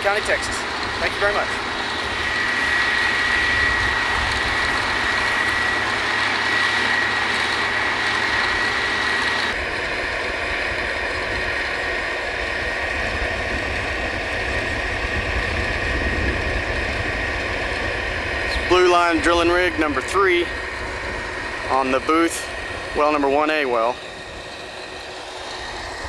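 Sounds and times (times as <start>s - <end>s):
drilling rig machinery running: 0.0s - 26.0s
thin high whine: 0.0s - 26.0s.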